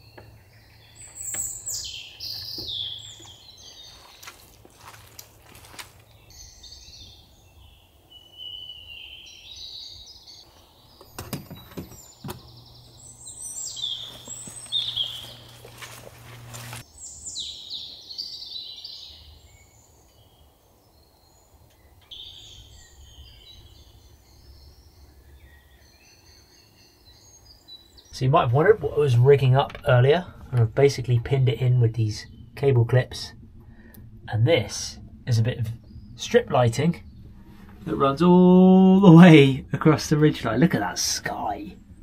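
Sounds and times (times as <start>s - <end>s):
faint hiss and low hum: 0.0s - 42.0s
songbirds singing: 0.0s - 42.0s.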